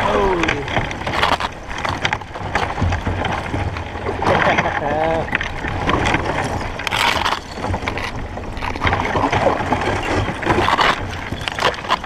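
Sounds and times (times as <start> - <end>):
hull knocking and scraping on ice: 0.0 - 12.0
paddle splashing in water: 0.0 - 12.0.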